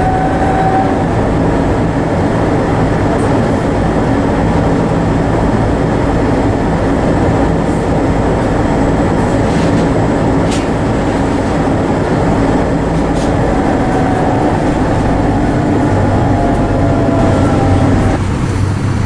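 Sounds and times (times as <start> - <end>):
tram wheels rumbling on rail: 0.0 - 19.0.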